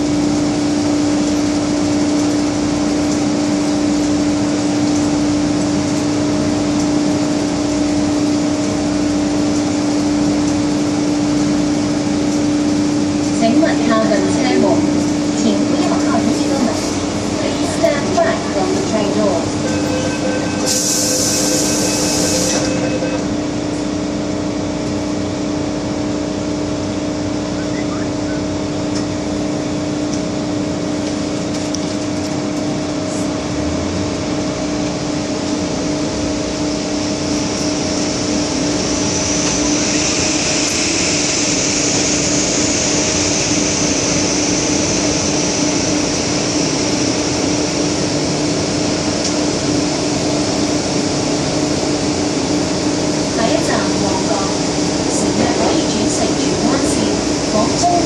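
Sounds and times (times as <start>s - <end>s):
train interior hum: 0.0s - 58.0s.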